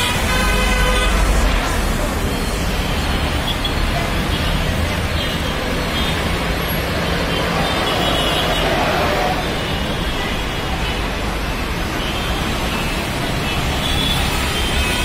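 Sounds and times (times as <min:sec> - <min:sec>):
tyres passing: 0:00.0 - 0:14.8
city road traffic rumble: 0:00.0 - 0:15.0.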